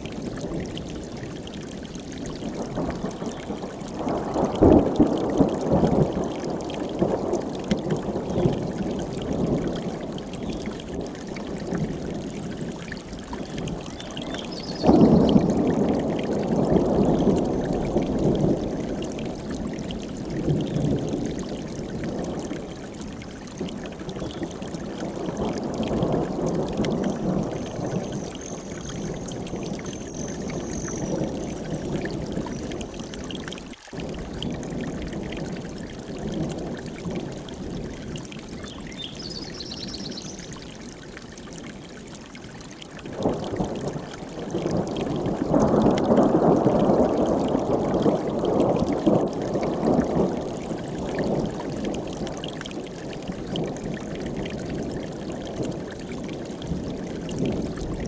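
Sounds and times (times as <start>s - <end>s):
stream rushing water: 0.0s - 58.0s.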